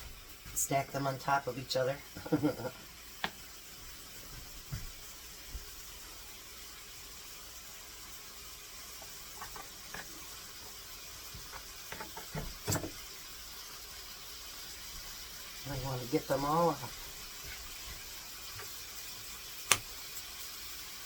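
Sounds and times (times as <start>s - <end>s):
bacon sizzling in a frying pan: 0.0s - 21.0s.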